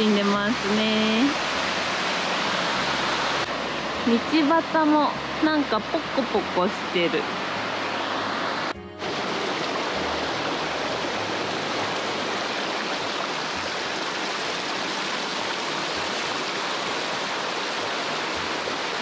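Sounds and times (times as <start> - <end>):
river water rushing over rock: 0.0 - 19.0.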